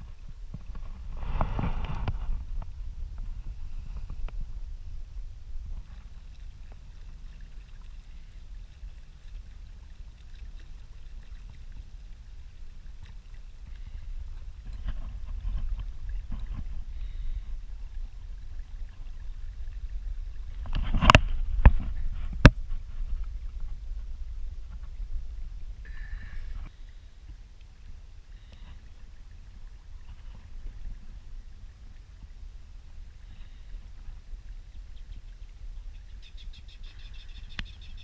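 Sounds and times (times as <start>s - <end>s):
water and wind rumble on hull: 0.0s - 38.0s.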